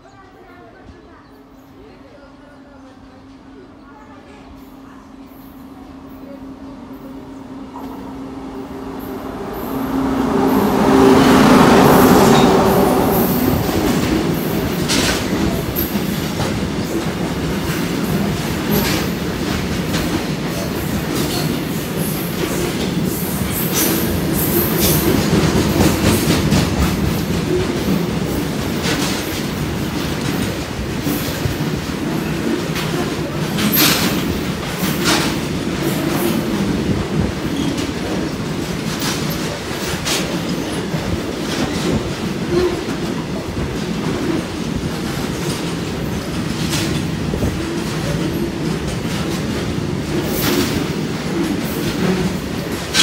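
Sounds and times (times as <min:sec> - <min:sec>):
electric locomotive humming: 0:00.1 - 0:53.0
freight wagons rumbling: 0:05.9 - 0:53.0
wheels clicking on rail joints: 0:09.0 - 0:53.0.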